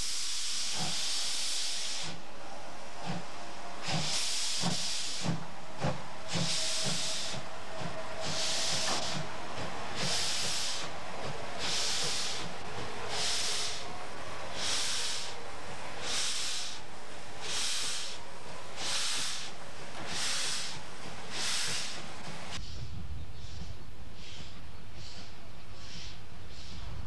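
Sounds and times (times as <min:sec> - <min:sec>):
steam locomotive chuffing: 0:00.0 - 0:27.0.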